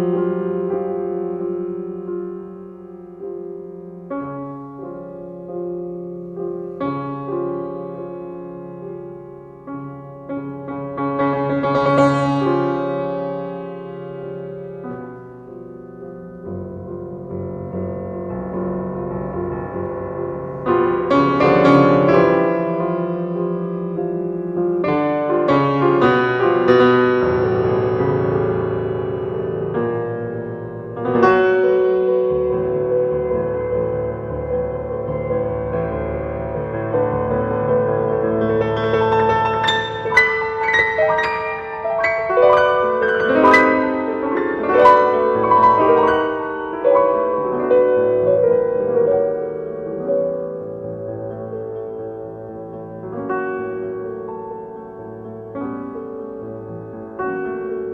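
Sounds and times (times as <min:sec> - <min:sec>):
piano music: 0:00.0 - 0:57.9.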